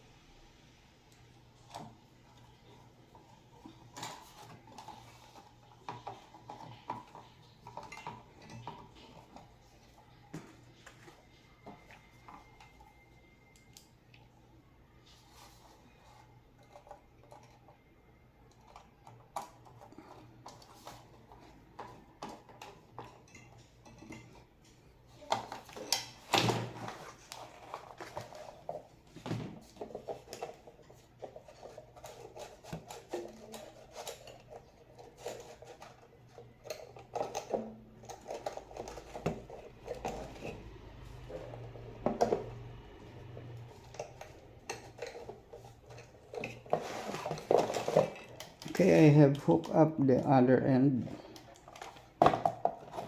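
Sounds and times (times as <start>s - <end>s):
tools and parts clicking and rattling: 1.6s - 13.0s, 15.2s - 49.8s, 51.0s - 53.0s.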